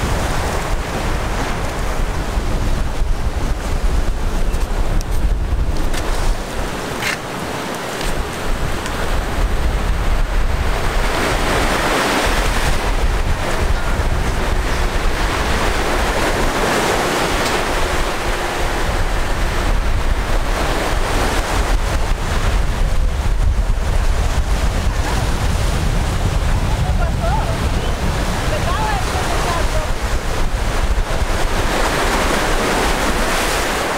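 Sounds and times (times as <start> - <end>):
wind noise on microphone: 0.0 - 33.9.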